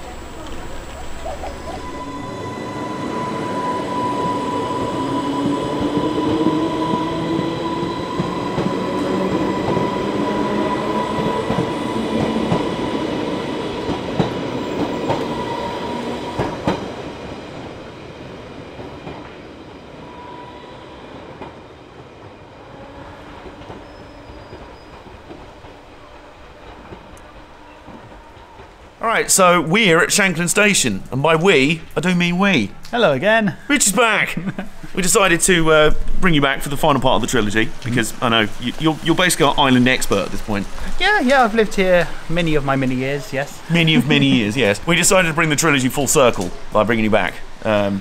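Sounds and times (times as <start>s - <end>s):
electric train whine: 0.0s - 32.9s, 34.0s - 48.0s.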